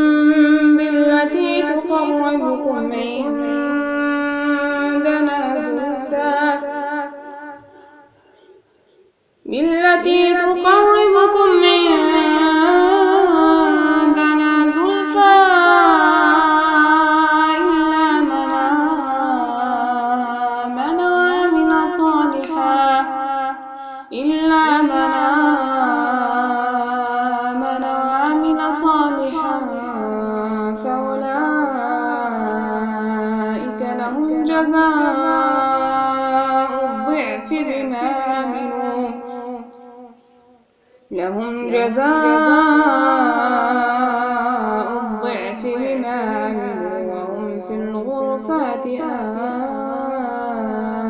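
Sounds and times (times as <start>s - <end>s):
woman chanting: 0.0s - 8.6s, 9.4s - 40.2s, 41.1s - 51.0s.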